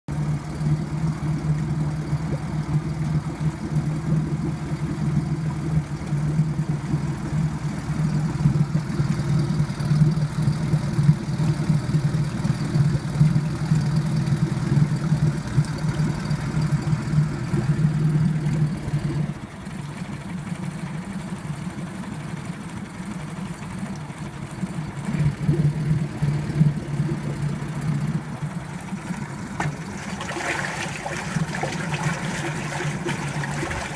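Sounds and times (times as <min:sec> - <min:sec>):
outboard motor running: 0:00.1 - 0:33.9.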